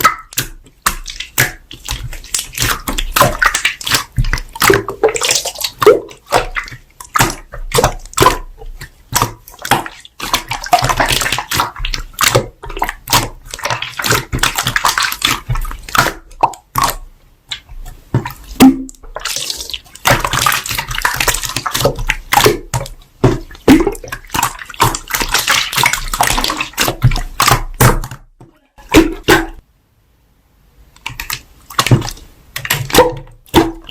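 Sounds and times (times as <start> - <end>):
slime squelching: 0.0 - 29.6, 31.0 - 33.9.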